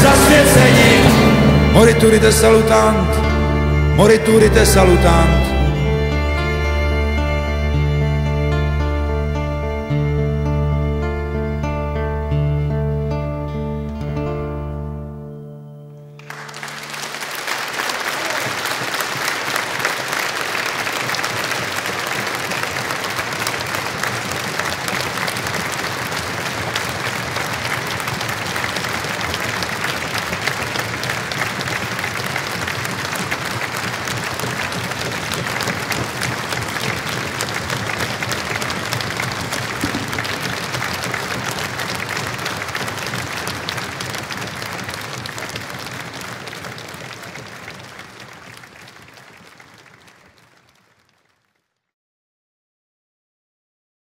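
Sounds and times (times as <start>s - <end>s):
audience applauding: 0.0s - 9.4s, 16.2s - 51.8s.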